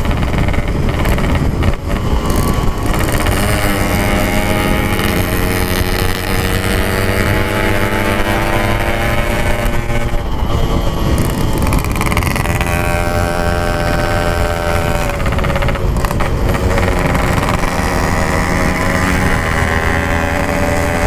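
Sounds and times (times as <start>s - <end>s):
two-stroke motorcycle engine running: 0.0s - 21.0s.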